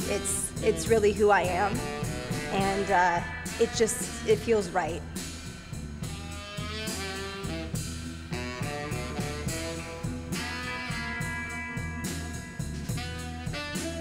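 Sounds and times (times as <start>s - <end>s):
instrumental background music: 0.0s - 14.0s
steady drum beat: 0.0s - 14.0s.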